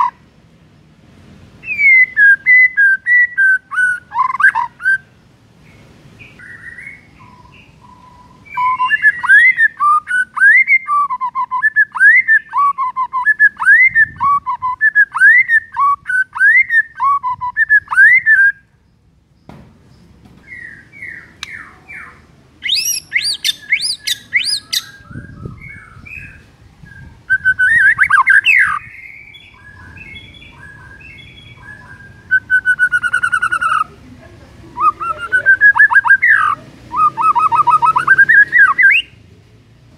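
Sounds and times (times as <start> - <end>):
bird singing whistled phrases: 1.6 - 5.1, 6.4 - 18.7, 20.4 - 33.9, 34.8 - 39.2.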